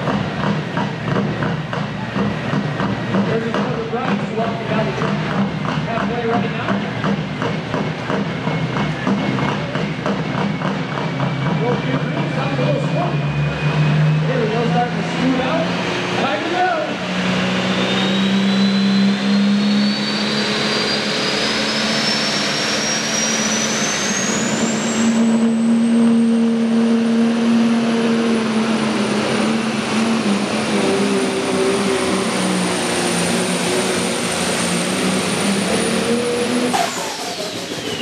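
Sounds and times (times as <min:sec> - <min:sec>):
diesel engine at high power: 0:00.0 - 0:38.0
high-pitched turbo whine: 0:00.0 - 0:38.0.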